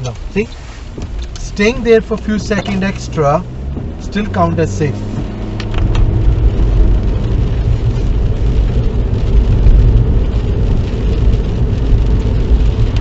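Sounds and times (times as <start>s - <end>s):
engine and tyres rumbling: 0.0s - 13.0s
tyres hissing on wet road: 0.0s - 13.0s.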